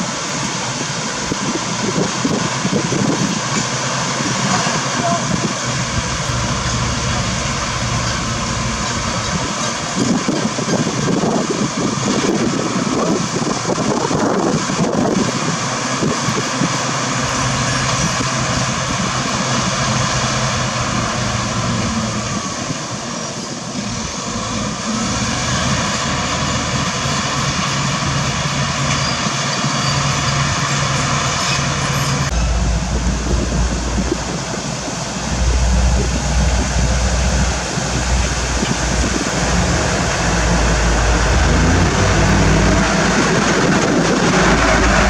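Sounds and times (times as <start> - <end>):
dump truck diesel rumble: 0.0 - 45.0
heavy diesel engines running: 0.0 - 45.0.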